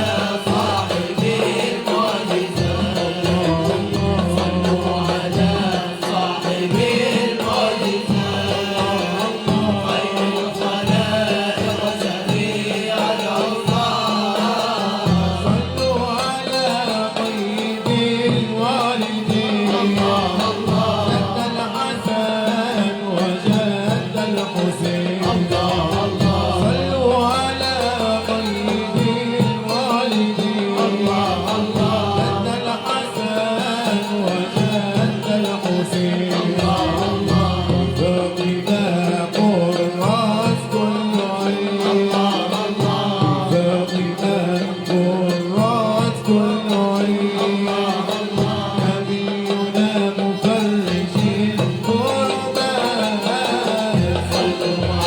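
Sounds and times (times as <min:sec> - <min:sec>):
voices singing: 0:00.0 - 0:55.0.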